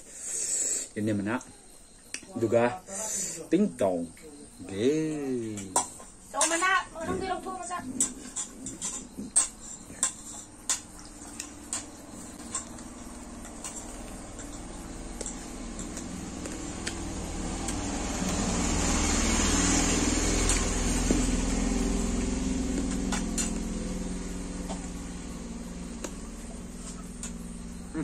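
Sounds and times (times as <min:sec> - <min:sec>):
motor vehicle passing: 0:04.6 - 0:28.0.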